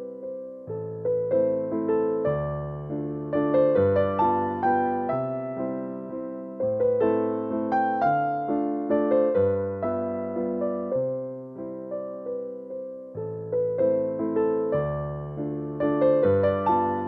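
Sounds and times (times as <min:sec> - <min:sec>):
calm electric piano melody: 0:00.0 - 0:17.0.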